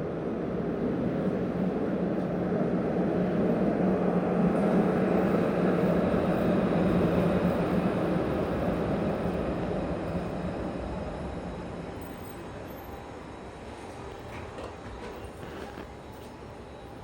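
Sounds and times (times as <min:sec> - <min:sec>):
tram running with low hum: 0:00.0 - 0:17.0.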